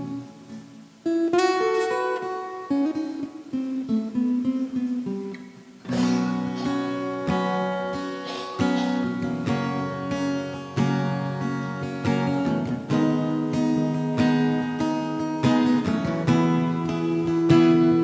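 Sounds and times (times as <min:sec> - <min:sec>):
guitar strummed and picked: 0:00.0 - 0:18.0.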